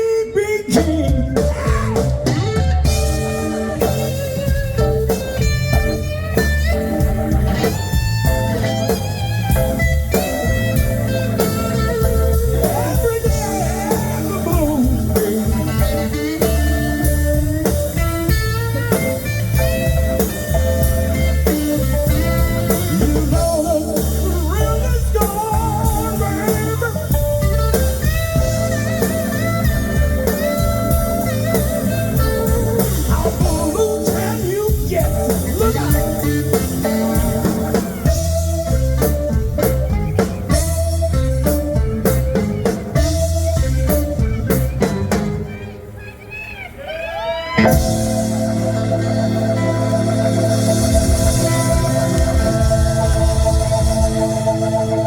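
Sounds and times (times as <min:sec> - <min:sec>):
bass: 0:00.0 - 0:55.0
drums: 0:00.0 - 0:55.0
lead electric guitar: 0:00.0 - 0:55.0.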